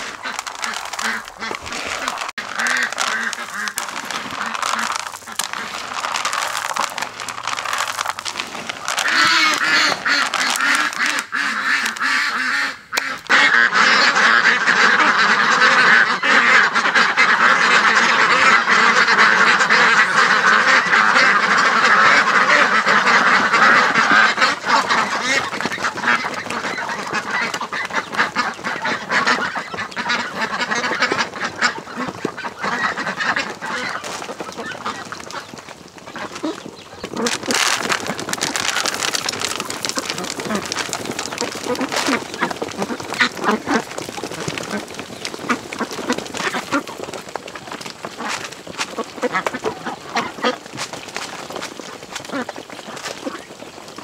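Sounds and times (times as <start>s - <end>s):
ducks quacking: 0.0s - 50.8s, 51.4s - 53.9s.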